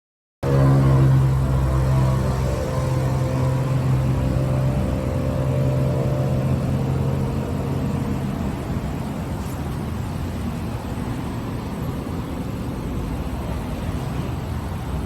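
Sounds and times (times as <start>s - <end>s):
car engine running: 0.4s - 15.0s
steady hum: 0.4s - 15.0s.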